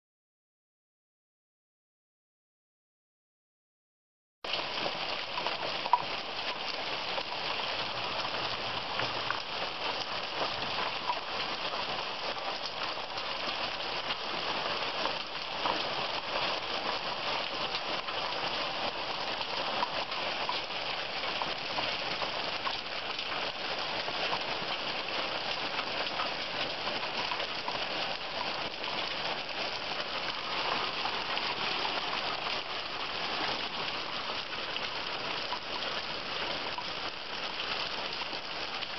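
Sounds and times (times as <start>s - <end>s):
heavy rain and hail falling: 4.5s - 38.9s.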